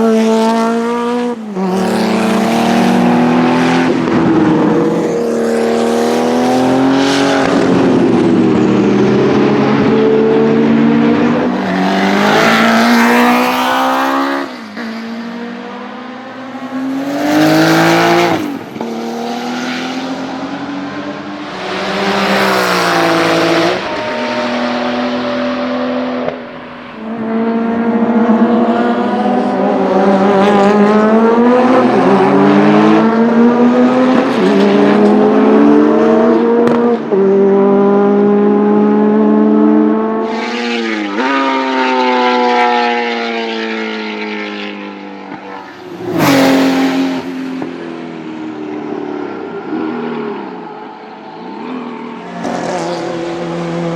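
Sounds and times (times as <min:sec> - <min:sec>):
racing engine accelerating: 0:00.0 - 0:53.9.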